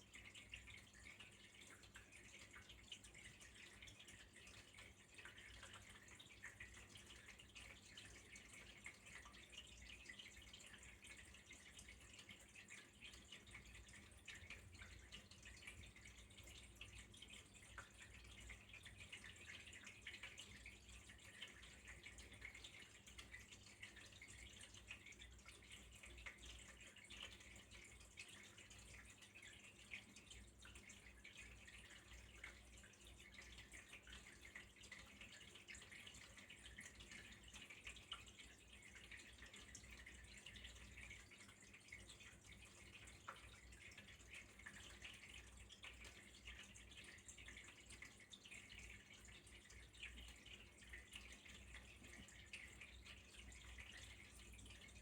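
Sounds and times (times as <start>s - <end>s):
water trickling and dripping: 0.0s - 55.0s.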